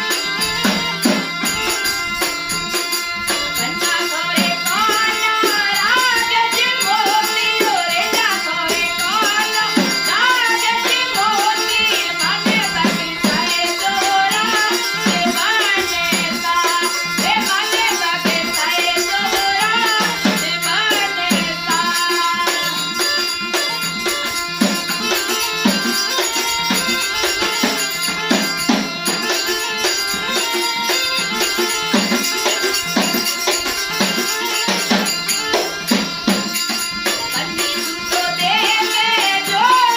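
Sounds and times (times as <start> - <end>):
jingling rattling percussion: 0.0 - 39.9
steady drum beat: 0.0 - 39.9.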